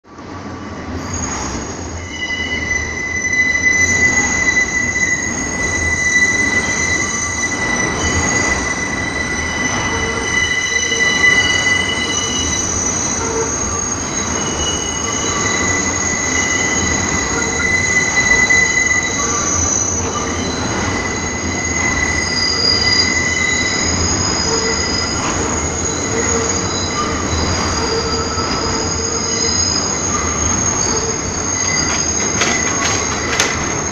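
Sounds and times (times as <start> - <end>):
train rumble: 0.1 - 33.9
train wheels screeching on rails: 0.4 - 33.9.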